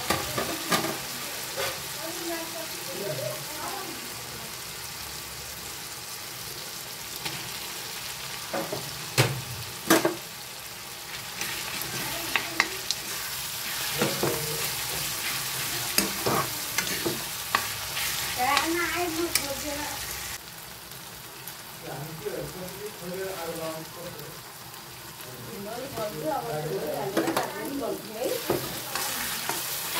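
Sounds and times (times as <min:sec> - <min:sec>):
food sizzling in hot oil: 0:00.0 - 0:29.9.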